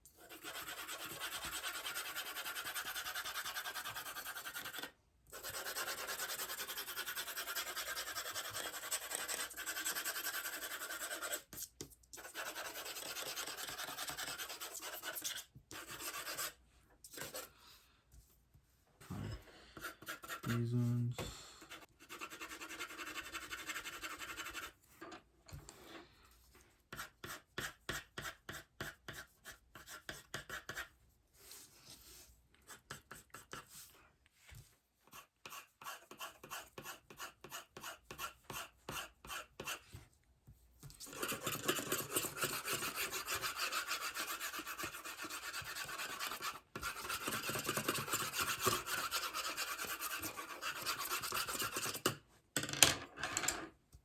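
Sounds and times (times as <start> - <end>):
pencil scratching on paper: 0.1 - 17.5, 19.8 - 21.0, 21.6 - 25.0, 26.9 - 34.0, 35.0 - 40.0, 40.8 - 52.1.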